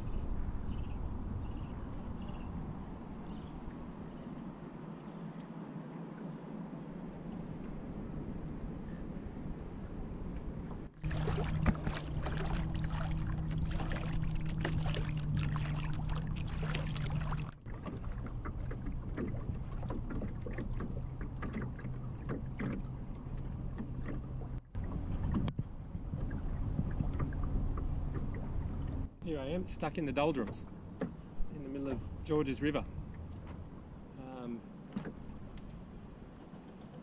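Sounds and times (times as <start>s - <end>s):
steady low hum: 0.0s - 37.0s
water lapping against a hull: 0.0s - 37.0s.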